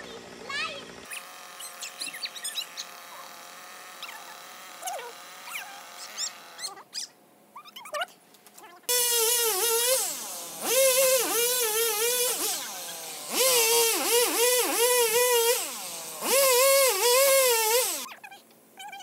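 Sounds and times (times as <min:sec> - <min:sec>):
chainsaw cutting log: 0:00.0 - 0:06.8, 0:08.9 - 0:18.1.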